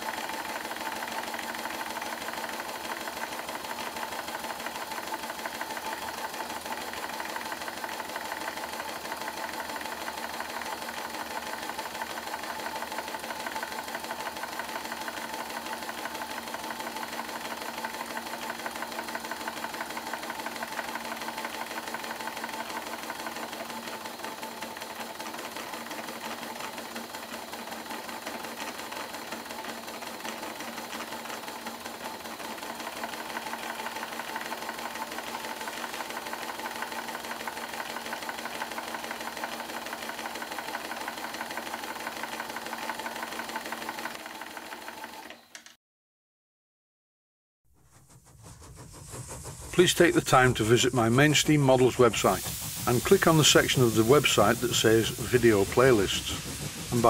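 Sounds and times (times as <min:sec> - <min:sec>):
model steam engine exhaust beat: 0:00.0 - 0:44.2, 0:47.8 - 0:57.0
light mechanical clatter: 0:00.0 - 0:45.8.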